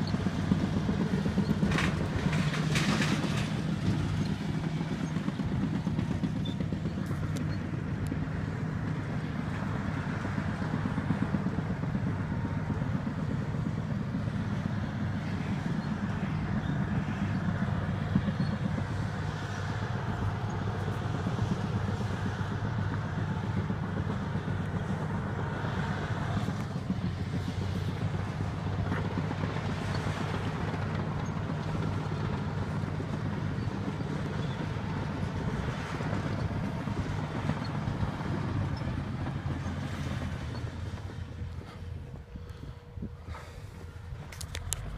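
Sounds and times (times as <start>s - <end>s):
heavy diesel engines under load: 0.0s - 44.9s.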